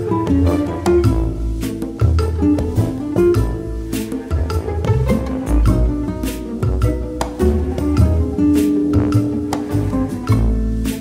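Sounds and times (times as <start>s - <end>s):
bass: 0.0s - 11.0s
plucked guitar: 0.0s - 11.0s
steady beat: 0.0s - 11.0s.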